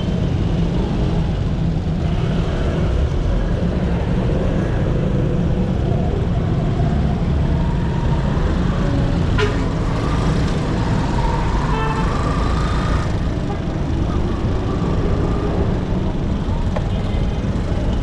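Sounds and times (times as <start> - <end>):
road and wind rumble: 0.0 - 18.0.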